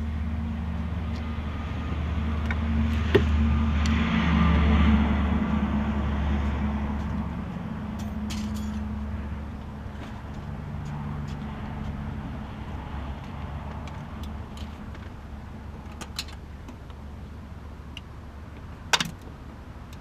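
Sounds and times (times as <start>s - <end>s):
low motor rumble: 0.0s - 20.0s.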